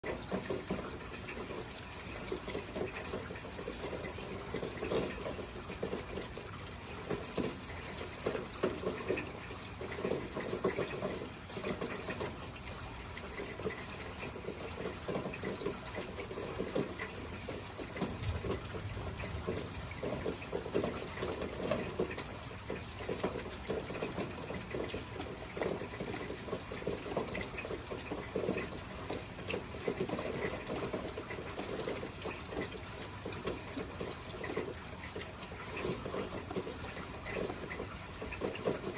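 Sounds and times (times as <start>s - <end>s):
water running and splashing: 0.0s - 38.9s.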